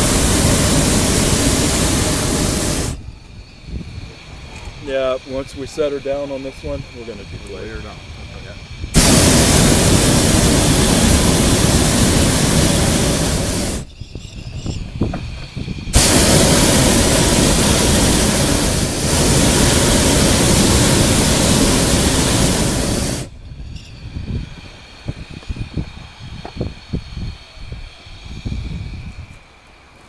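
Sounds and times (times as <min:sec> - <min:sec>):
propane burner blasts: 0:00.0 - 0:29.8.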